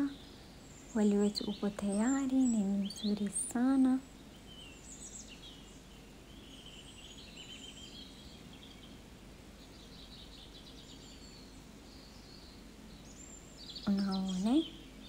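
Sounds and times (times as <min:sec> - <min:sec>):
bird chirps and trills: 0:00.0 - 0:15.0
low steady hum: 0:00.0 - 0:15.0.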